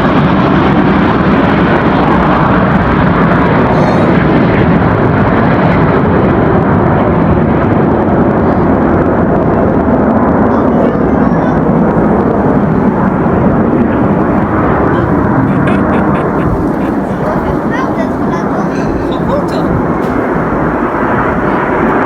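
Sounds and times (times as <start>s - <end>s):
aircraft engine noise: 0.0s - 22.0s.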